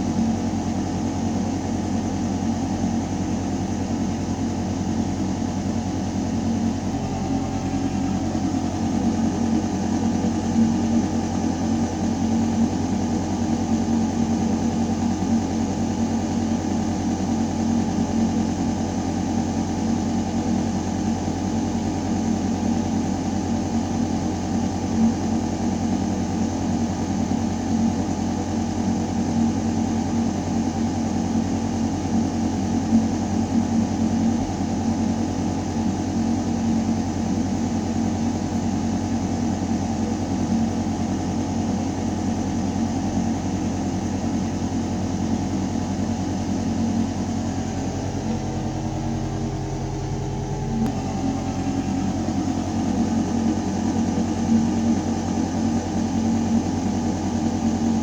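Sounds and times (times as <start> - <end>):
ventilation system humming: 0.0 - 58.0.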